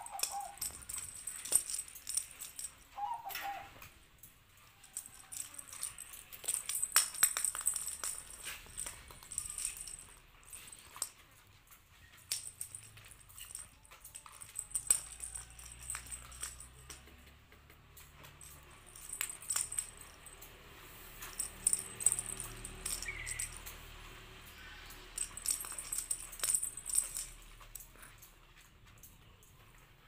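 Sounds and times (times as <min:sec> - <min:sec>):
toy ball jingling and rattling: 0:00.0 - 0:29.6
small clicks on tile floor: 0:00.0 - 0:30.0.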